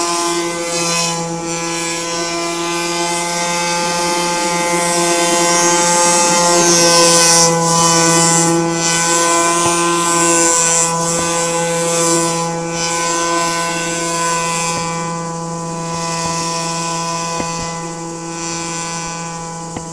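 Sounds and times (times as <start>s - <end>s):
model airboat motor buzzing: 0.0s - 19.9s.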